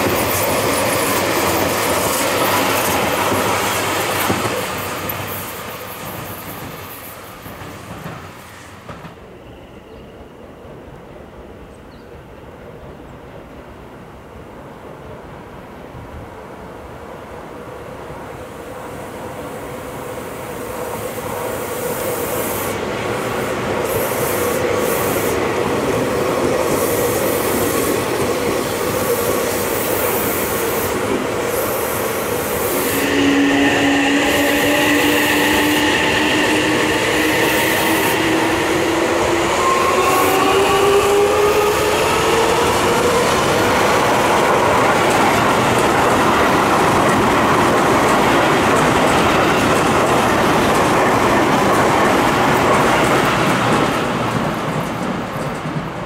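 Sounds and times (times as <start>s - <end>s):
train wheels running on rails: 0.0s - 9.9s, 17.8s - 56.0s.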